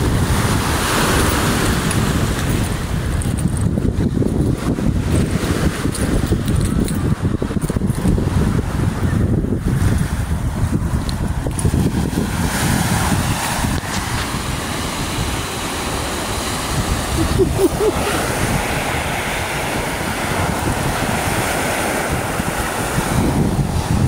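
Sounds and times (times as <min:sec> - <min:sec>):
waves washing onto shore: 0:00.0 - 0:24.0
wind buffeting microphone: 0:00.0 - 0:24.0.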